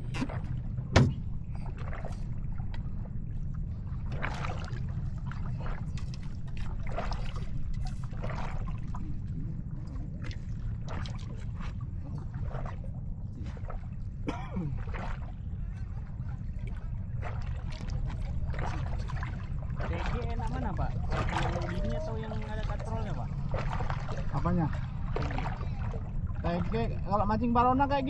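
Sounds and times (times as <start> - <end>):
boat motor droning: 0.0 - 28.0
water splashing: 0.0 - 28.0.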